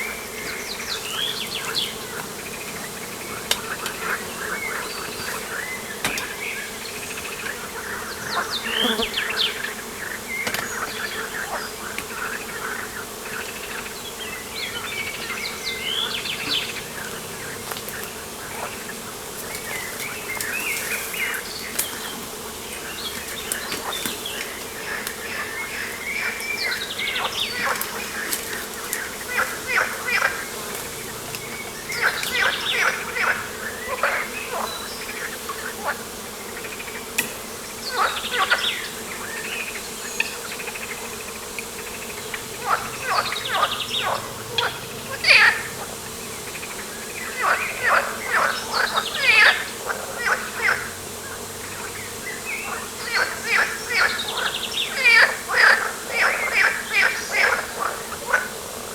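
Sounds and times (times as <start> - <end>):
insects buzzing: 0.0 - 58.9.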